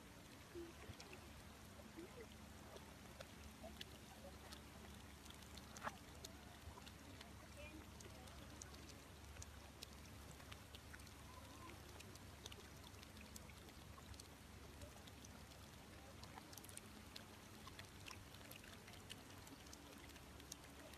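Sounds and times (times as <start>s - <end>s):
low steady hiss: 0.0s - 20.9s
small water splashes and drips: 0.0s - 20.9s.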